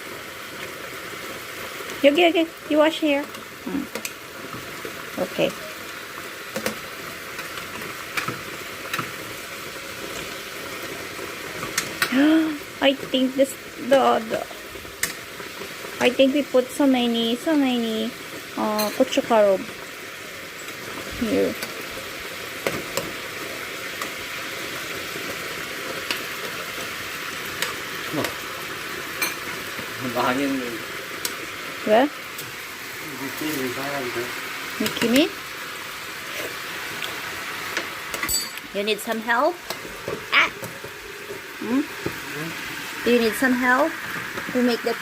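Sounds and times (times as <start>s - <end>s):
meat sizzling in a pan: 0.0s - 45.0s.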